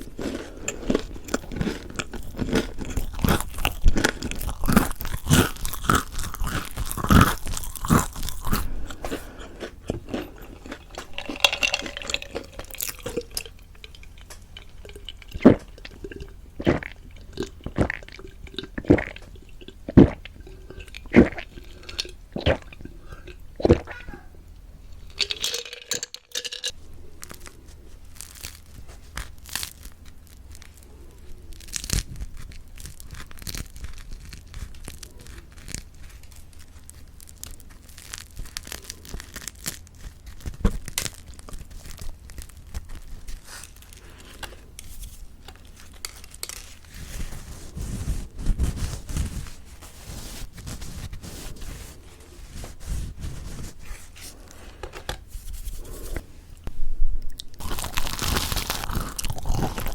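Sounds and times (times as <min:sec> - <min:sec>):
crispy bread crust crackling: 0:00.0 - 0:24.2, 0:24.9 - 0:56.3, 0:57.4 - 0:59.9
chewing bread: 0:00.0 - 0:24.3, 0:24.9 - 0:56.3, 0:57.3 - 0:59.9.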